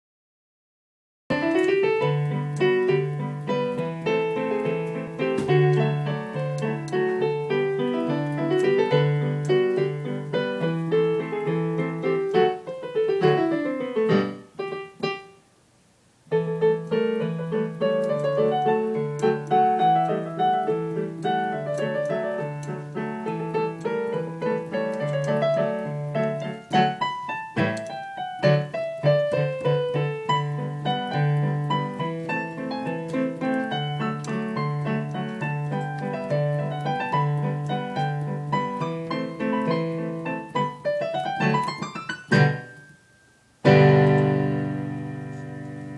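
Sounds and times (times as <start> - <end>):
digital piano melody: 1.3 - 15.5, 16.2 - 45.9.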